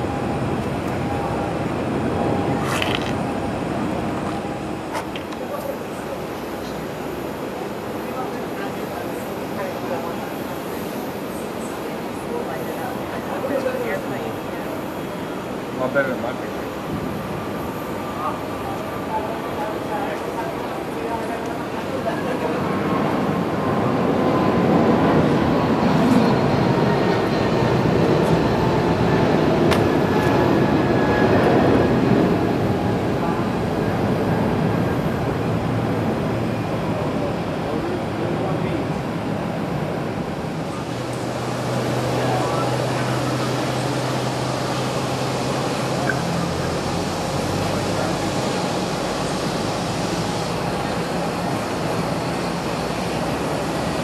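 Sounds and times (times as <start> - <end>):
jet engines roaring: 0.0 - 54.0
muffled airport rumble and hiss: 0.0 - 54.0.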